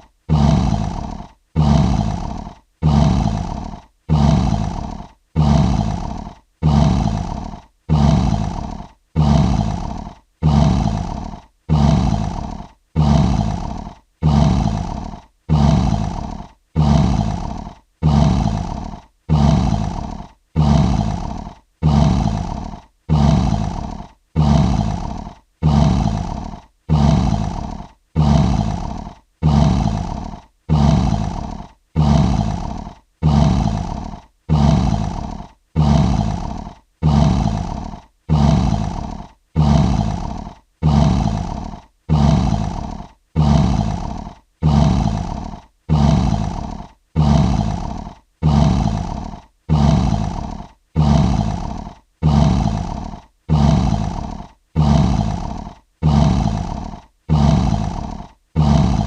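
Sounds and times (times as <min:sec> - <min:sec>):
lion roaring: 0:00.3 - 0:59.0.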